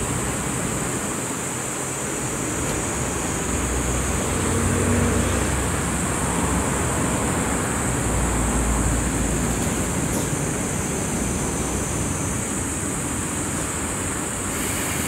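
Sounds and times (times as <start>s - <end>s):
car wash machine whooshing hiss: 0.0s - 15.0s.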